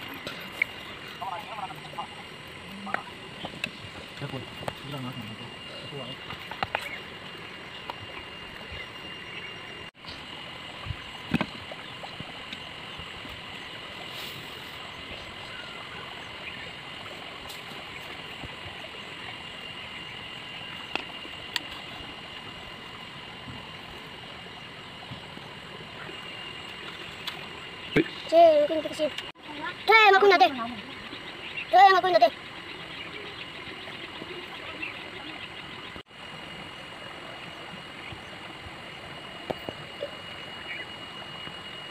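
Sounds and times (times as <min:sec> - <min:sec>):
faint high whine: 0:00.0 - 0:41.9.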